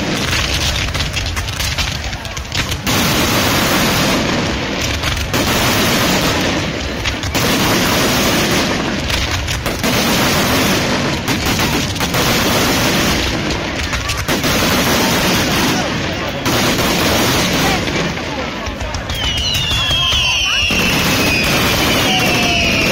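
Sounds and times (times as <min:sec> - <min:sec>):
fireworks barrage: 0:00.0 - 0:22.9.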